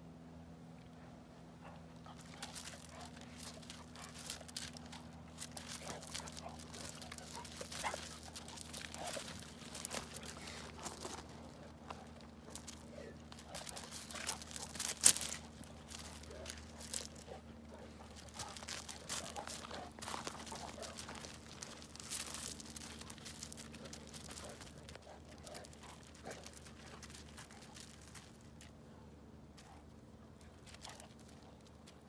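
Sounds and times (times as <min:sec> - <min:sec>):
paws scuffling on gravel: 0:01.6 - 0:32.0.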